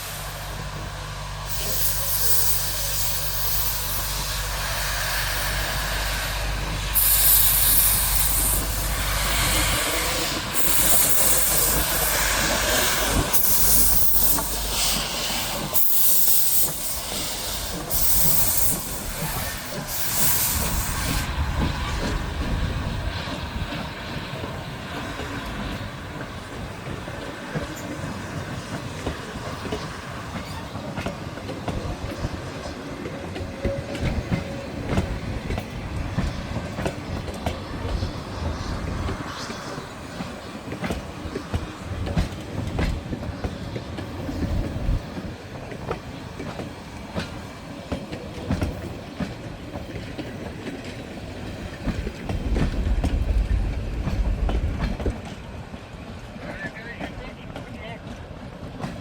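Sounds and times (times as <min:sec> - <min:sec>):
locomotive steam hissing: 0:00.0 - 0:57.8.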